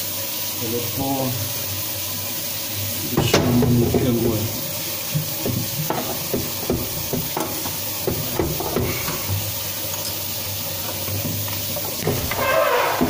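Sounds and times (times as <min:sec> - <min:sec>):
water running down a drain: 0:00.0 - 0:13.0.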